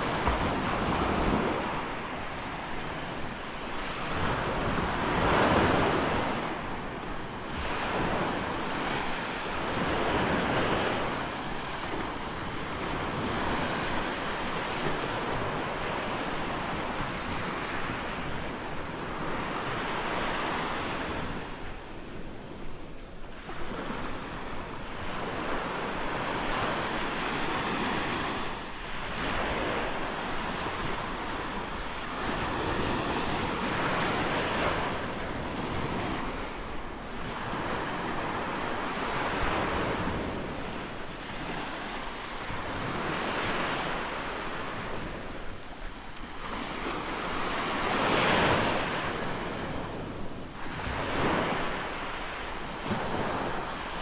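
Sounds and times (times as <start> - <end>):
small waves breaking on sand: 0.0 - 54.0
wind on microphone: 0.0 - 54.0.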